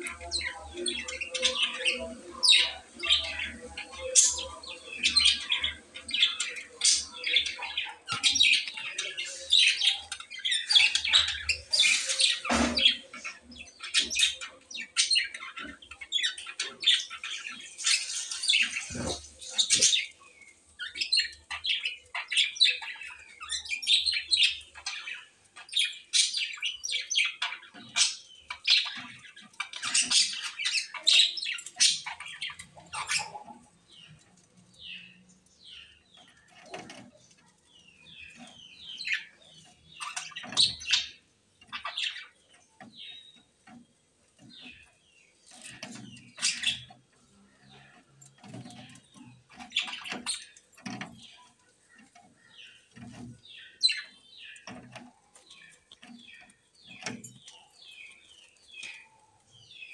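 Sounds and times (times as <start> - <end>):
birds chirping and squawking: 0.0 - 59.9.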